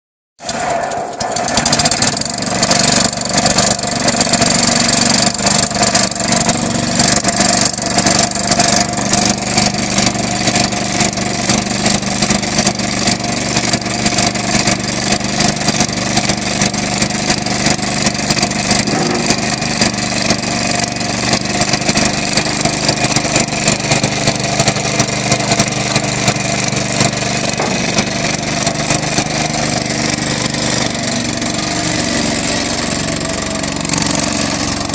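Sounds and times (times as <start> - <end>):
flywheel engine clattering: 0.5 - 32.8.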